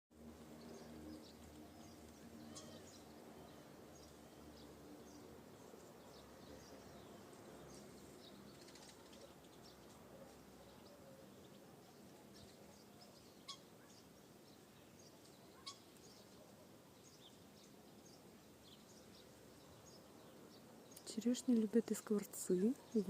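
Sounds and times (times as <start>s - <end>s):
songbirds chirping: 0.2s - 23.0s.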